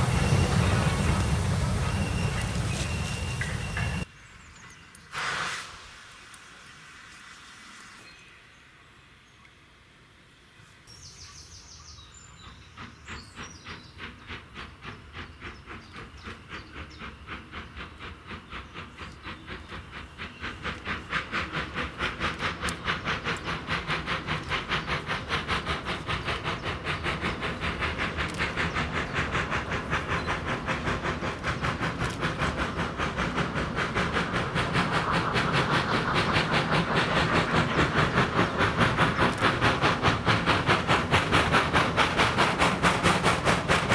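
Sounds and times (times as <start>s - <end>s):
steam locomotive chuffing: 0.0s - 4.5s, 11.2s - 43.9s.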